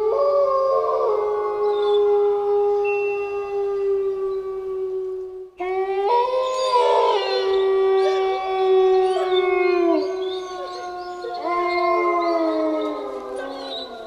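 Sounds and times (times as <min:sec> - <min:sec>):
wolves howling: 0:00.0 - 0:14.0.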